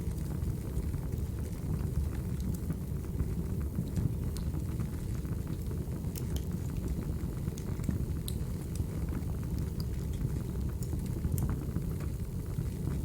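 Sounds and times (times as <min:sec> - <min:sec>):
low rumble of flames: 0:00.0 - 0:13.0.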